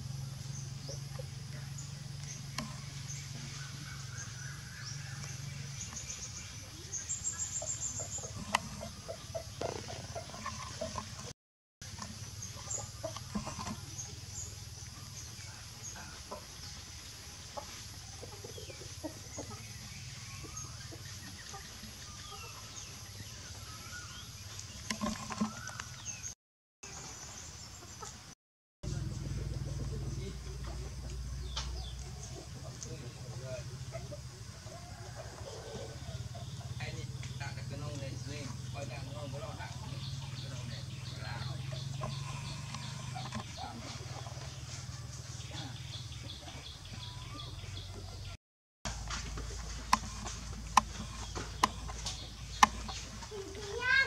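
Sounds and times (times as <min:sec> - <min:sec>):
clucking calls: 0:00.9 - 0:11.3, 0:11.9 - 0:14.5, 0:17.5 - 0:23.8, 0:29.2 - 0:48.3, 0:48.9 - 0:54.0.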